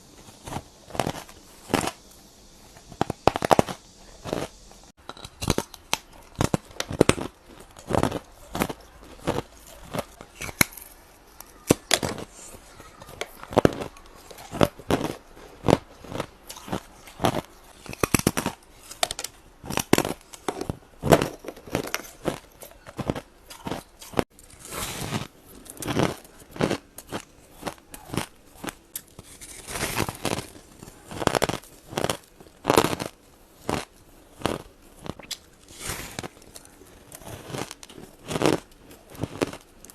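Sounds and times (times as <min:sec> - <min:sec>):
ice crunching between teeth: 0:00.3 - 0:02.0, 0:02.9 - 0:39.9.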